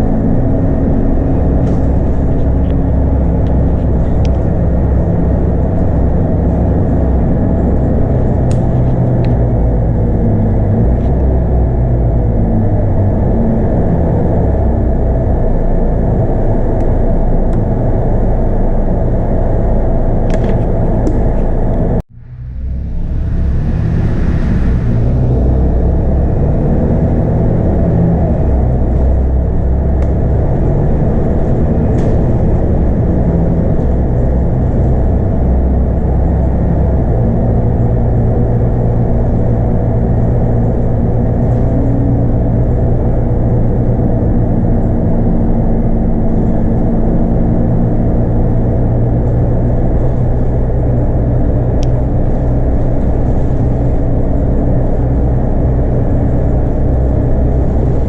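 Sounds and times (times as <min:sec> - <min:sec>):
bus diesel engine running: 0:00.0 - 0:58.0
road noise: 0:00.0 - 0:58.0.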